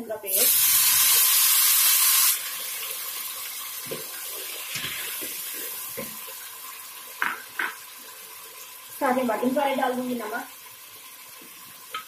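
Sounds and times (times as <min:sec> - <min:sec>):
paste sizzling in hot oil: 0:00.2 - 0:12.0.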